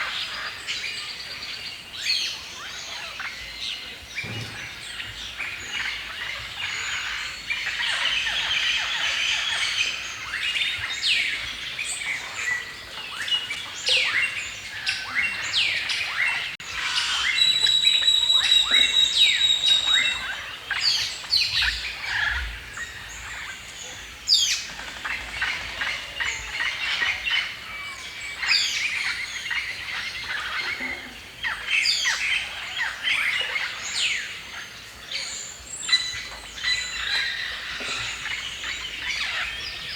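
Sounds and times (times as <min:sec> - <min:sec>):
many birds chirping and singing: 0:00.0 - 0:39.9.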